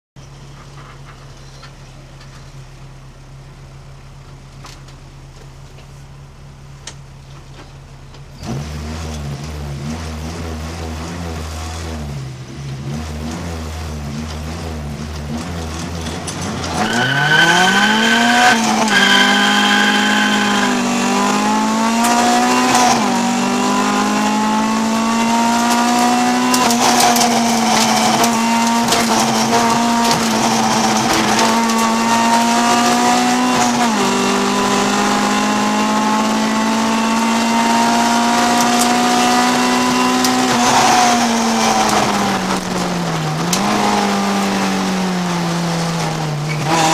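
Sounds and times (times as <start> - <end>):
race car engine revving: 8.1 - 46.9.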